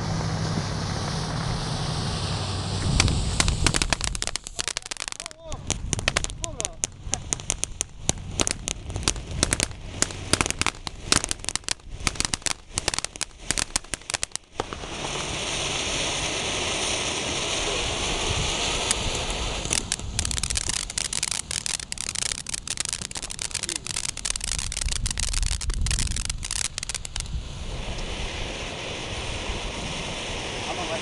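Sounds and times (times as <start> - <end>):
fireworks fountain hissing: 0.0 - 31.0
fireworks crackling: 0.1 - 31.0.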